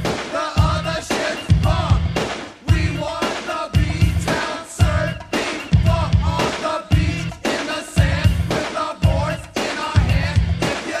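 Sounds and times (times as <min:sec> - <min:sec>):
rap song with drum-machine beat: 0:00.0 - 0:11.0.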